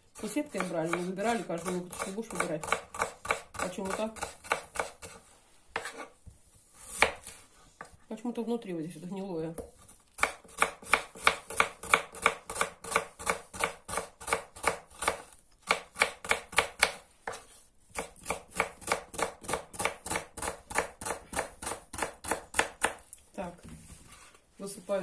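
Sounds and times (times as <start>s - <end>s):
knife chopping on wooden board: 0.2s - 6.1s, 6.9s - 8.0s, 9.6s - 23.0s.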